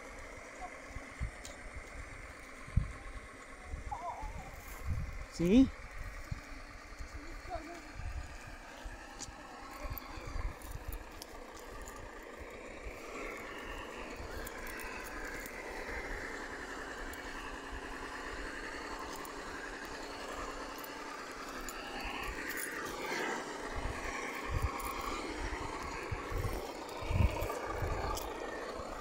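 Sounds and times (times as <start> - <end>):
electric motor and gearbox whine: 0.0 - 29.0
tyres crackling over twigs: 0.0 - 29.0.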